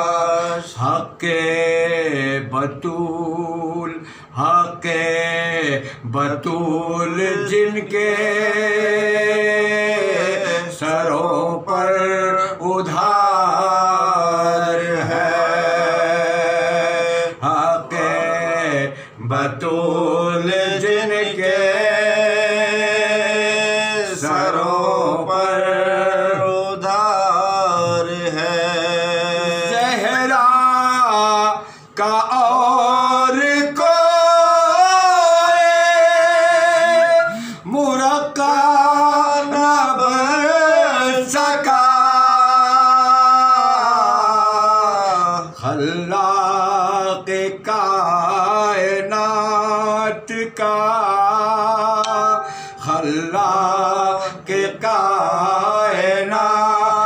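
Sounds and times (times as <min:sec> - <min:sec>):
men chanting a lament: 0:00.0 - 0:57.0.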